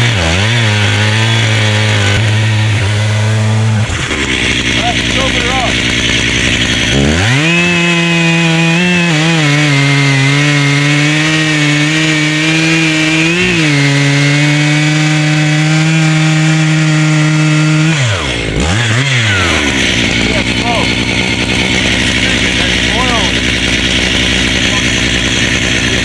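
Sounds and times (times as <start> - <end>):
chainsaw cutting through log: 0.0 - 26.0.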